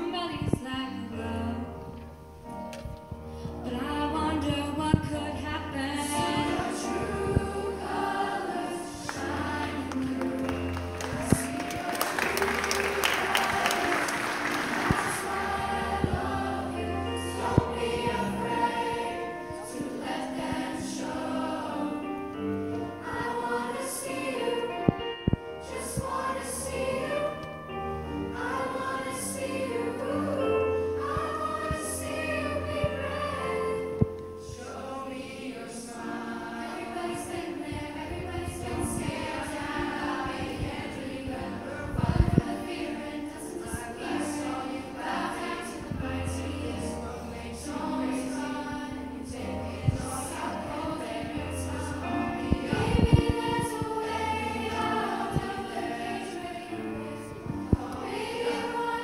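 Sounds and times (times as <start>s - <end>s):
choir singing in parts: 0.0s - 59.0s.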